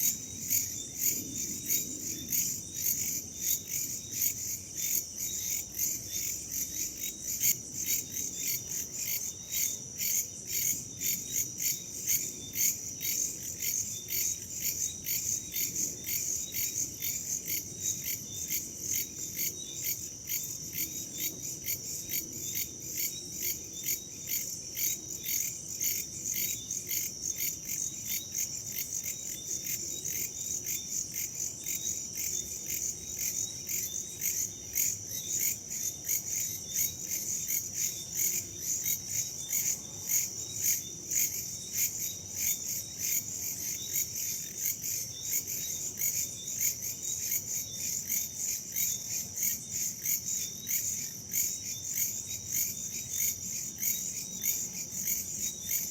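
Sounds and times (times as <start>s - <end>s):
crickets and insects chirping: 0.0s - 55.9s.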